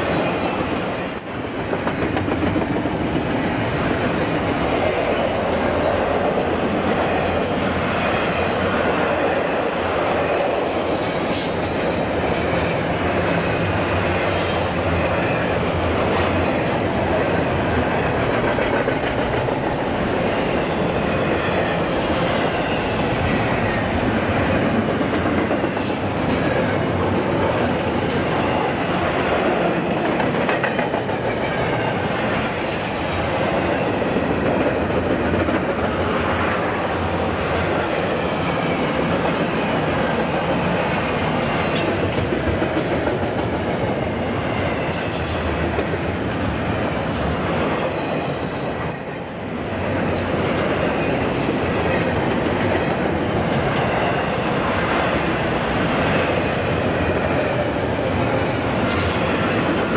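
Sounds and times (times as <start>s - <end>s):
train cars rolling on rails: 0.0s - 59.9s.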